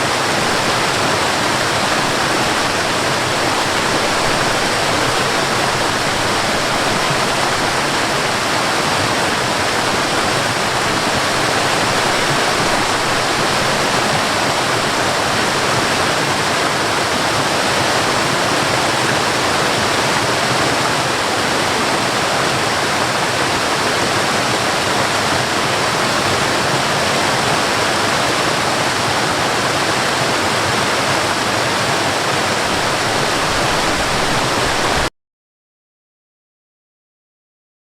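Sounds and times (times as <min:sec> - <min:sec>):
waterfall roaring: 0:00.0 - 0:35.1.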